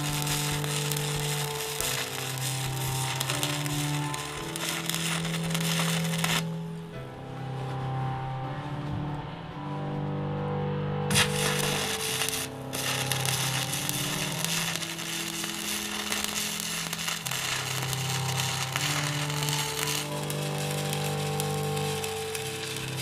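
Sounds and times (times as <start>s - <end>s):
welding arc crackling and sizzling: 0.0s - 6.6s, 11.1s - 23.0s
music with slow held notes: 0.0s - 23.0s.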